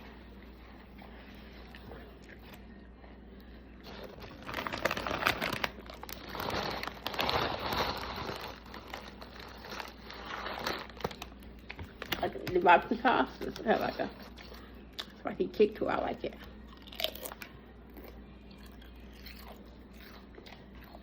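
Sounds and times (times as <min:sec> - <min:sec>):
sandwich crunching and chewing: 0:00.3 - 0:12.6, 0:16.3 - 0:21.0.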